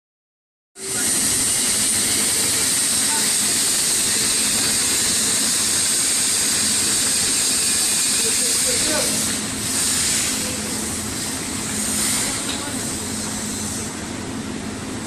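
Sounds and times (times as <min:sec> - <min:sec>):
high-pitched industrial hiss: 0:00.8 - 0:14.0.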